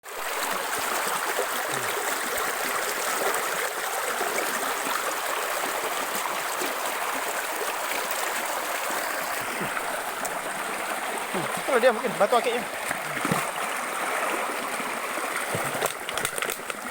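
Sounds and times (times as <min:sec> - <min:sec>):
stream water running over rocks: 0:00.0 - 0:16.9.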